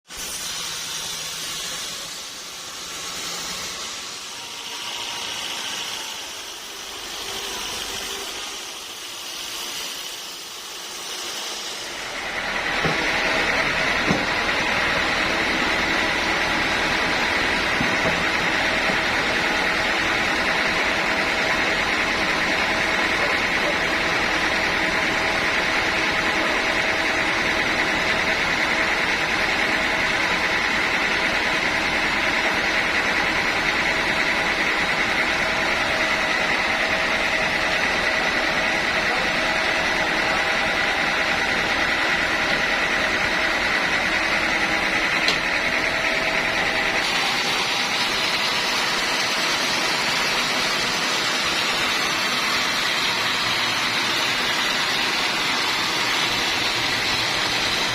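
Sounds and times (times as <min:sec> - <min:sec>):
band saw whine: 0:00.1 - 0:57.9.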